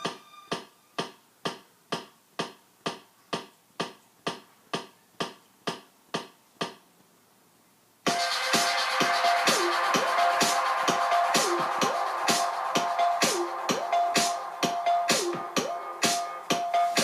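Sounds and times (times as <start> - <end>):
electronic dance music: 0.0 - 5.4, 8.0 - 17.0.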